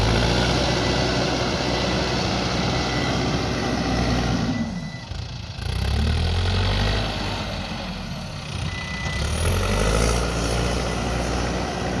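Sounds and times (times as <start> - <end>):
diesel engine working: 0.0 - 12.0.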